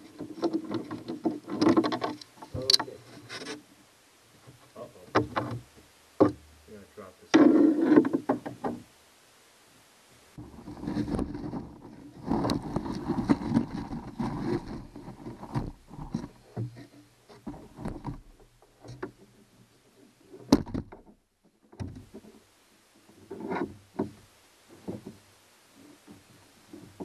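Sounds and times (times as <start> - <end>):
rustling and scraping: 0.0 - 6.4, 7.3 - 8.9, 10.4 - 27.0.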